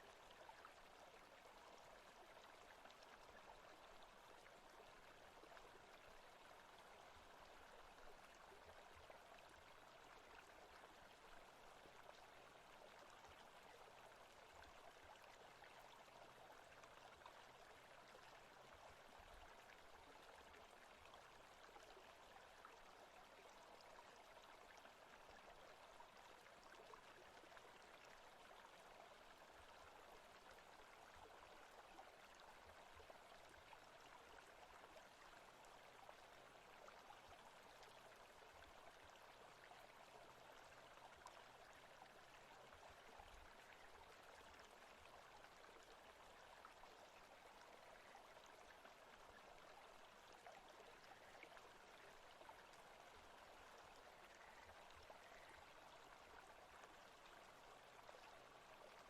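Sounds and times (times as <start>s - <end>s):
faint forest stream rushing: 0.0s - 59.0s.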